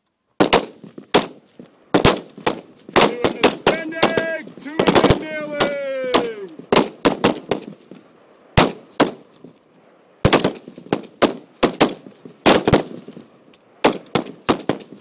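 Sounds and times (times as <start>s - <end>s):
rifle shots: 0.4s - 7.9s, 8.6s - 9.3s, 10.2s - 13.2s, 13.8s - 15.0s.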